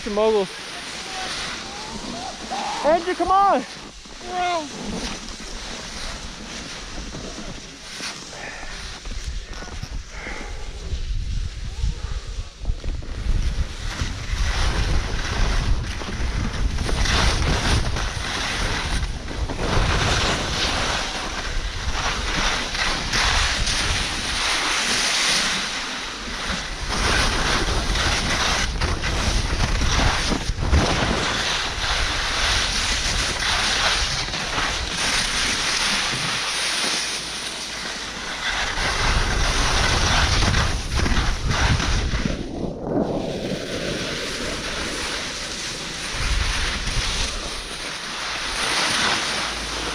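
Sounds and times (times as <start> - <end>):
wind rushing over microphone: 0.0 - 36.4, 37.9 - 48.7
skis scraping packed snow: 0.0 - 49.9.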